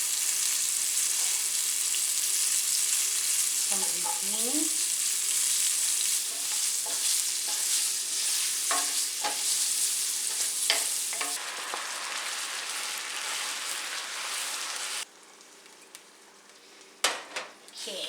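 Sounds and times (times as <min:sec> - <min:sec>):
food sizzling in a skillet: 0:00.0 - 0:16.2.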